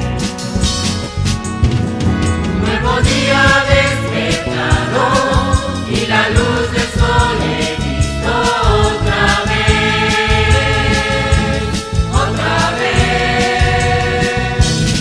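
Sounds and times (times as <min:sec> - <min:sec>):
instrumental backing with steady beat: 0:00.0 - 0:15.0
choir singing religious song: 0:02.4 - 0:15.0.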